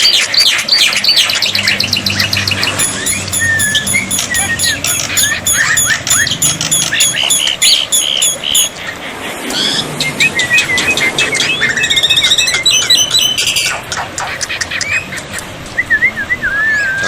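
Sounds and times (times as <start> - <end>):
bird rattling trill: 0.0 - 15.4
bird chirping and whistling: 0.0 - 17.0.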